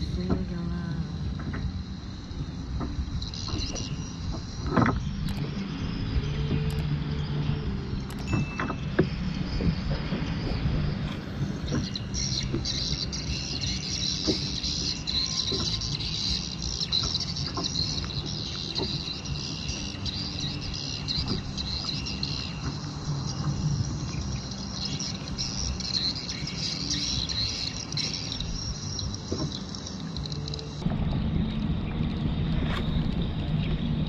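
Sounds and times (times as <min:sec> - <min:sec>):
low rumble: 0:00.0 - 0:29.4, 0:30.1 - 0:34.0
birds chirping: 0:00.0 - 0:34.0
insects chorus: 0:00.0 - 0:34.0.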